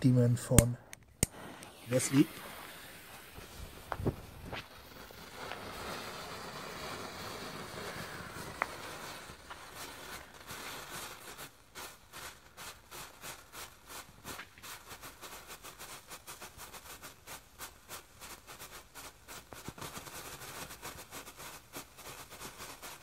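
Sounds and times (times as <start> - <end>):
strobe firework popping: 0.5 - 12.5, 16.4 - 22.8.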